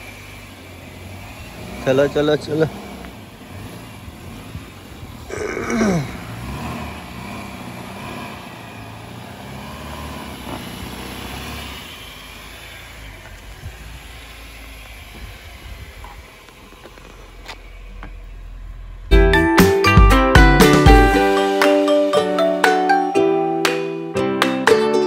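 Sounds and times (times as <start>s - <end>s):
car engine: 0.0s - 24.8s
road noise: 0.0s - 25.0s.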